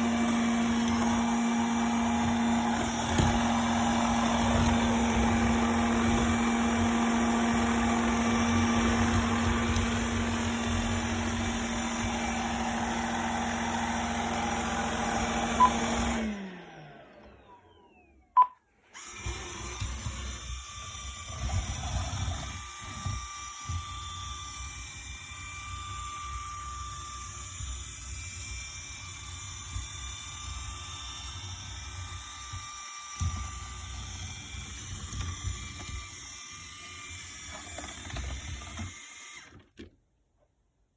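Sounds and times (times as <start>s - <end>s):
robot vacuum running: 0.0s - 18.3s, 18.9s - 39.6s.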